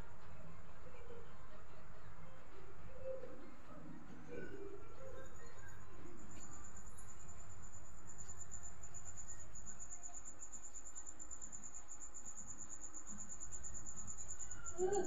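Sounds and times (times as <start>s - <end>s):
cricket chirping: 2.9s - 15.0s.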